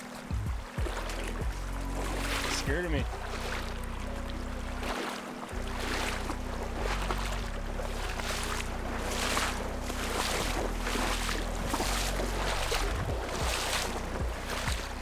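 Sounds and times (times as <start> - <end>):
rhythmic splashing of river water: 0.0 - 15.0
steady low hum: 0.2 - 15.0.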